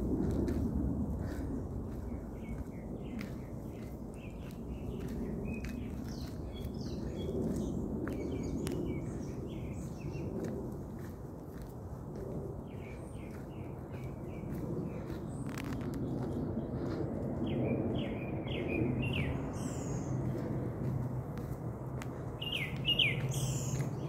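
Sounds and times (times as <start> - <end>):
footsteps on gravel: 0.0 - 17.2, 20.1 - 24.0
birds chirping: 1.8 - 10.4, 12.6 - 24.0.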